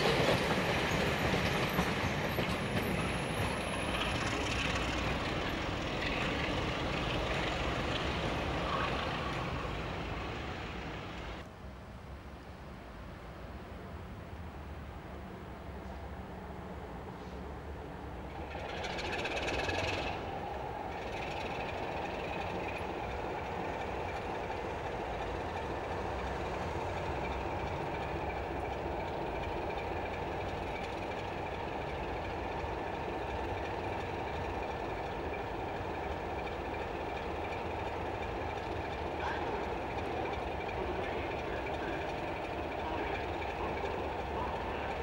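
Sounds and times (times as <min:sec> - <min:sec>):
diesel locomotive engine idling: 0:00.0 - 0:11.5, 0:17.2 - 0:45.0.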